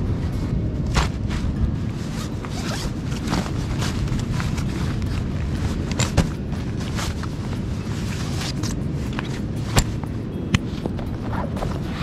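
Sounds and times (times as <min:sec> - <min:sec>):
steady low rumble: 0:00.0 - 0:12.0
fabric rustling: 0:00.2 - 0:12.0.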